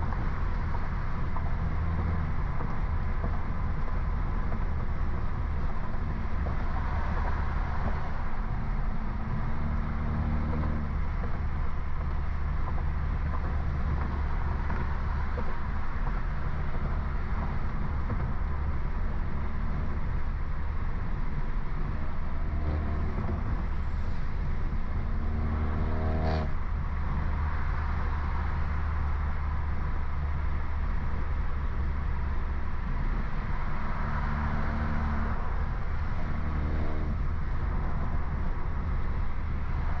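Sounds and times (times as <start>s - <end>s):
car engine and exhaust running: 0.0s - 40.0s.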